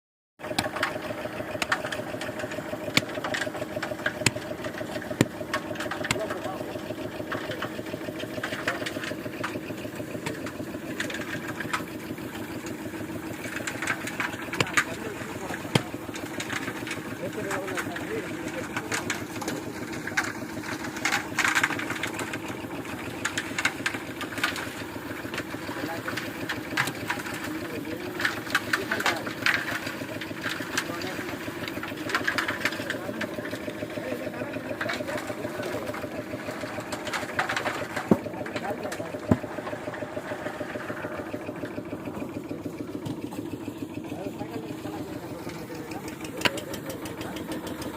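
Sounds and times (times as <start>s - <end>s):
concrete mixer engine running: 0.4s - 47.9s
knocks and clatters: 0.4s - 47.9s.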